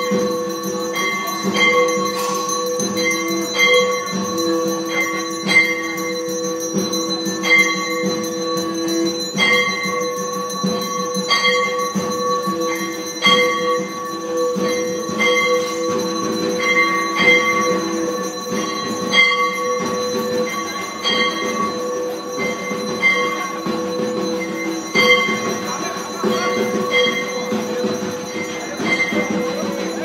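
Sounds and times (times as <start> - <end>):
bell-metal strikes: 0.0 - 30.0
bells ringing: 0.0 - 30.0.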